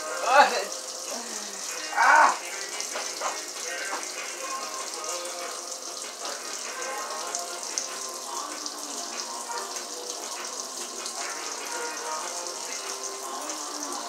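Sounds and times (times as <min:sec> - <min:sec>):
faint music: 0:00.0 - 0:14.0
food sizzling in a pan: 0:00.0 - 0:14.0.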